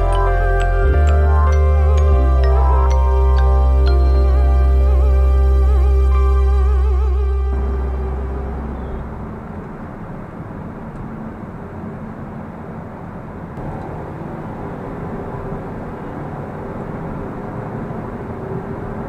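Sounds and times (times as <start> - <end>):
car engine hum: 0.0 - 19.0
tyre and road noise: 0.0 - 19.0.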